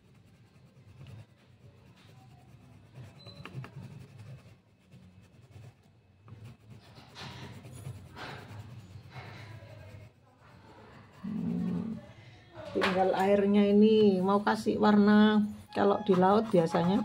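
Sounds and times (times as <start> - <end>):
pencil scratching on paper: 0.0 - 17.0.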